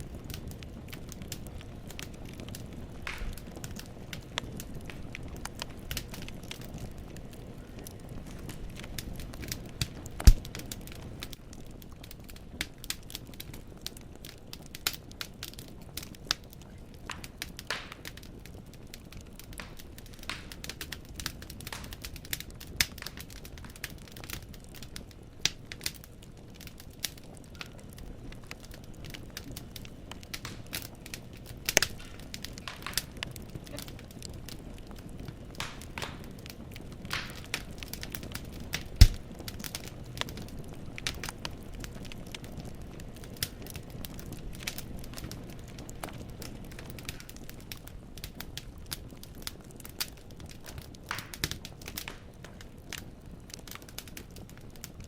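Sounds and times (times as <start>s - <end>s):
burning logs popping: 0.0s - 55.0s
flames rumbling softly: 0.0s - 55.0s
wood fire crackling: 0.0s - 55.0s.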